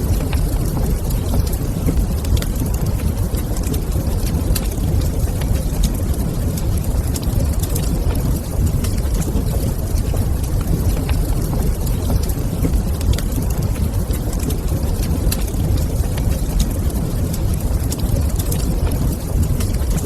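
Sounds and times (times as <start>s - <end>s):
fire low rumble: 0.0s - 20.0s.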